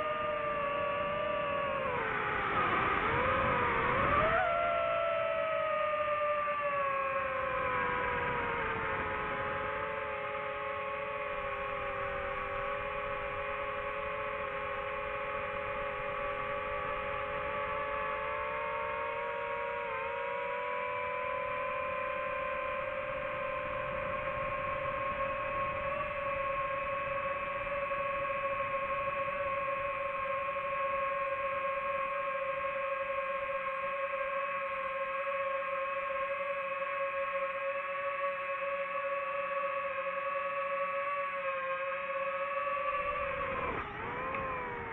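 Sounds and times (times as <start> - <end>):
quadcopter propellers whining: 0.0 - 44.9.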